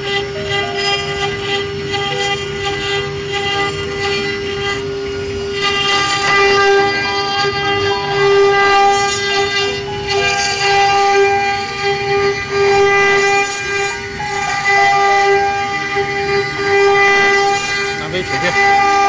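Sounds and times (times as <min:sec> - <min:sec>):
router spindle whining: 0:00.0 - 0:19.0
stepper motors shifting tones: 0:00.0 - 0:19.0.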